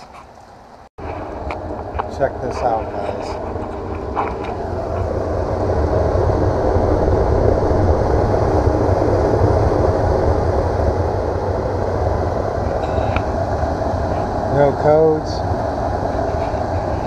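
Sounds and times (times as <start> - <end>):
furnace fan and burner rumble: 0.0 - 17.0.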